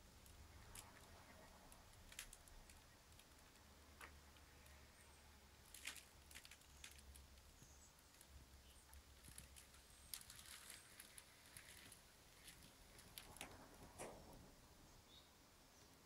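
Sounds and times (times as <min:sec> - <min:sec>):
faint low hum: 0:00.0 - 0:16.0
faint clicks and ticks: 0:00.1 - 0:14.7.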